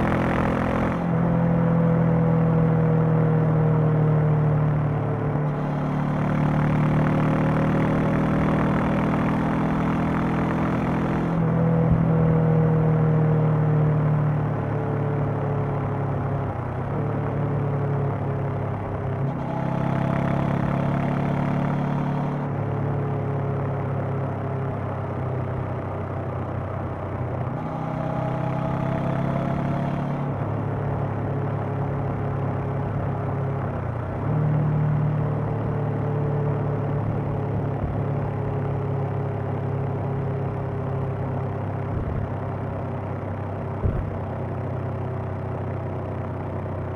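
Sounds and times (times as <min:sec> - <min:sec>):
motorcycle engine and exhaust: 0:00.0 - 0:46.9.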